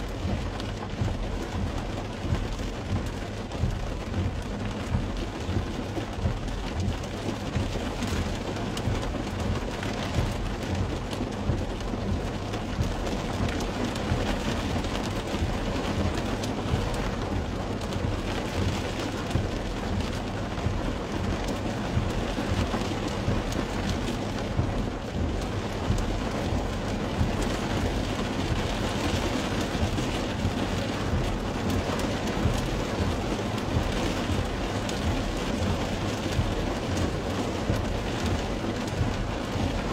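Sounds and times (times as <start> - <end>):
constant low rumble: 0.0 - 39.9
rain on car windshield and roof: 0.0 - 39.9.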